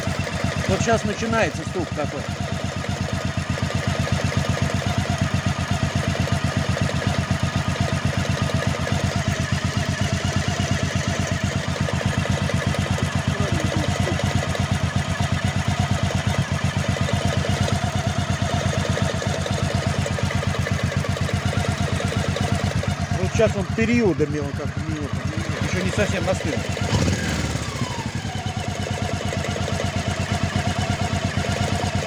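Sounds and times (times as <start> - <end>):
engine knock: 0.0 - 32.0
motorcycle engine idling: 0.0 - 32.0.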